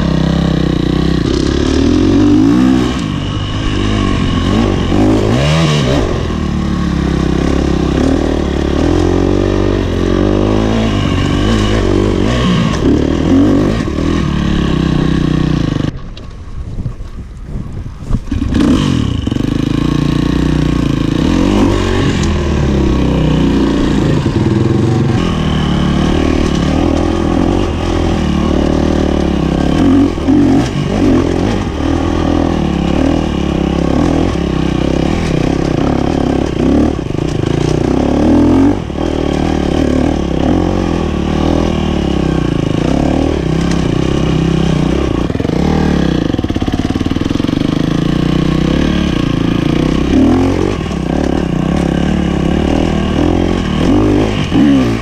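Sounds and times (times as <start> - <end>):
dirt bike engine revving: 0.0 - 16.0, 18.3 - 55.0.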